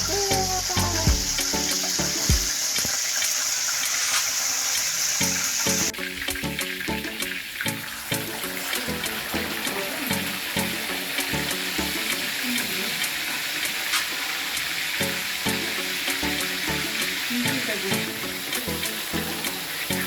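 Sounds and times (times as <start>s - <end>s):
background music: 0.0s - 2.9s, 5.2s - 20.0s
hot oil sizzling and crackling: 0.0s - 20.0s.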